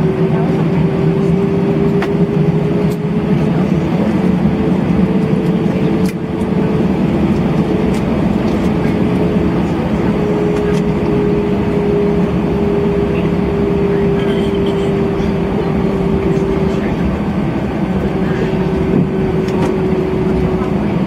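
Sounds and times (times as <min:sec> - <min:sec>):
airplane cabin engine drone: 0:00.0 - 0:21.0.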